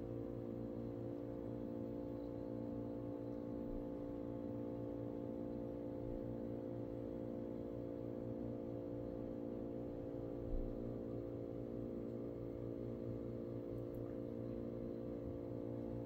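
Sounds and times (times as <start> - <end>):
steady low motor hum: 0.0 - 16.0.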